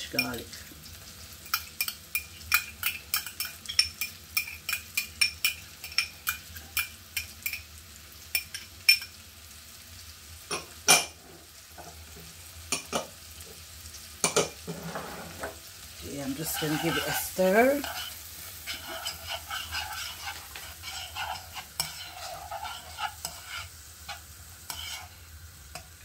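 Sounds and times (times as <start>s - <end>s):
vegetables sizzling in pan: 0.0s - 26.0s.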